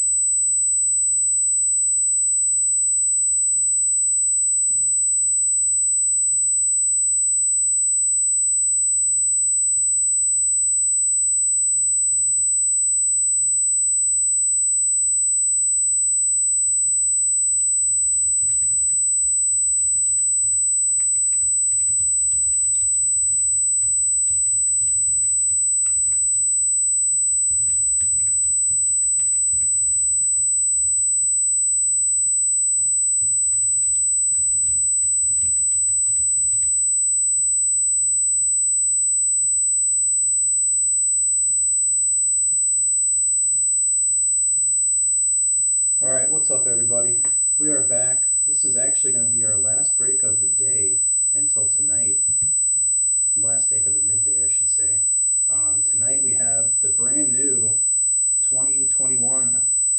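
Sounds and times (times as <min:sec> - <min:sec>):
steady high-pitched tone: 0:00.0 - 0:59.9.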